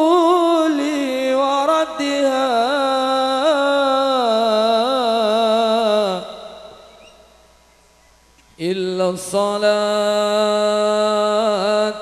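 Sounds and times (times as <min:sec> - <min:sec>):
man singing ornamented melody: 0:00.0 - 0:07.4, 0:08.6 - 0:12.0.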